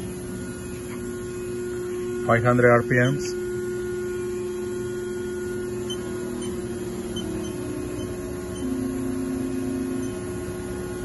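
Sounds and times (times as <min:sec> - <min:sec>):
machine spindle hum and whine: 0:00.0 - 0:11.0.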